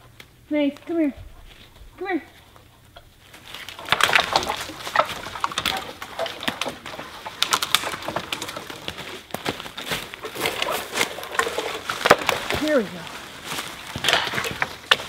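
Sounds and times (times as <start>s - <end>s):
twigs and leaves crackling: 0.0s - 15.0s.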